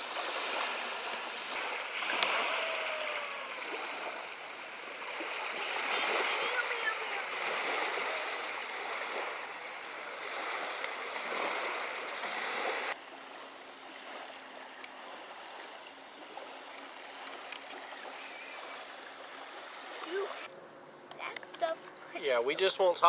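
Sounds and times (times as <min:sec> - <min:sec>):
rushing water: 0:00.0 - 0:20.5.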